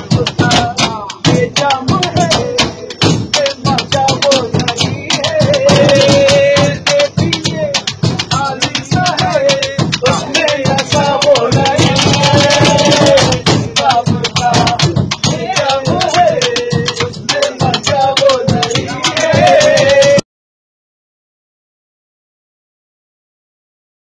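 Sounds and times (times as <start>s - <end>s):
people singing: 0.0s - 20.2s.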